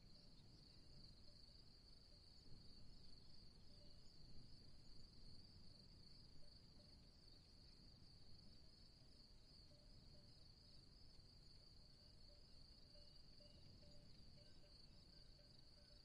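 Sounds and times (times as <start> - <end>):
high-pitched insect trill: 0.2 - 16.0.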